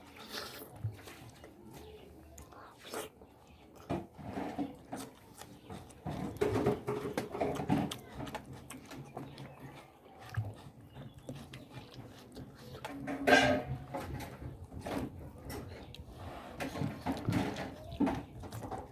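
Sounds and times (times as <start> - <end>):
chewing and lip-smacking: 0.0 - 13.2, 14.1 - 18.9.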